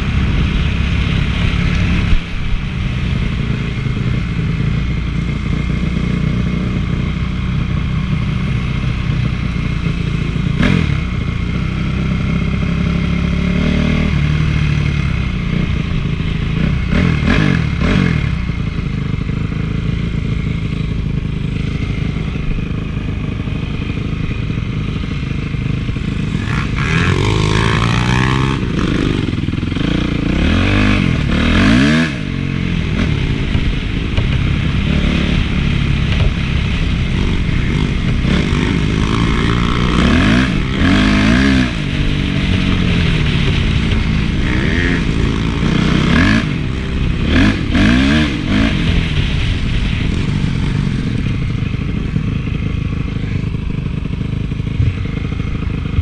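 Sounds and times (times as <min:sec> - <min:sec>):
motocross engine revving: 0:03.1 - 0:56.0.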